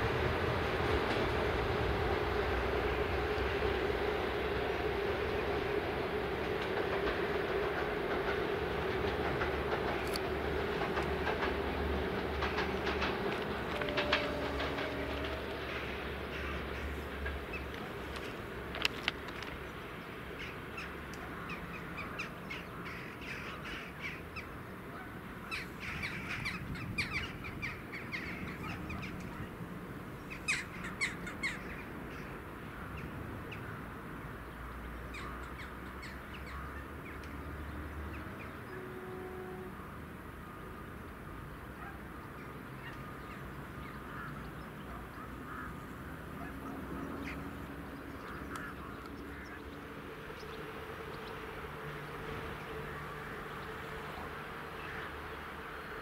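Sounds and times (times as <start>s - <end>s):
birds calling: 2.8s - 39.1s, 40.7s - 56.0s.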